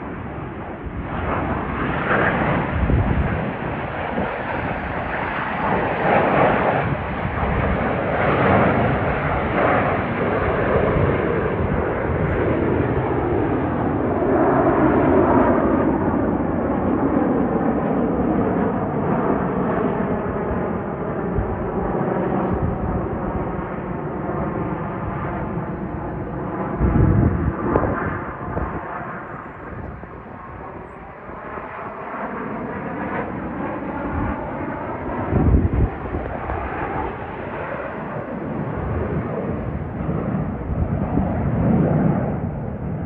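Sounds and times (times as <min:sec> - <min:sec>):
jet aircraft roar: 0:00.0 - 0:43.0.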